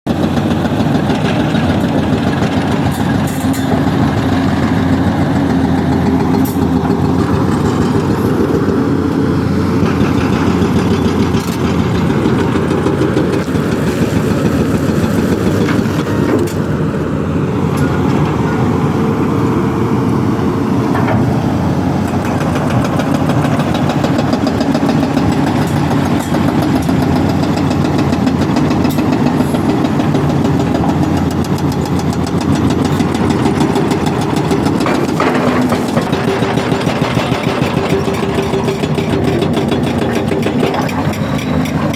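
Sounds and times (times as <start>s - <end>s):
excavator diesel engine running: 0.1s - 41.9s.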